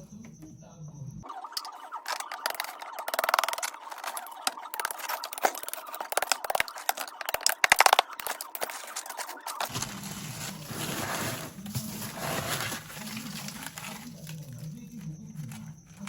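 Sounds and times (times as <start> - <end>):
tool scraping and chipping ice: 2.1 - 15.0.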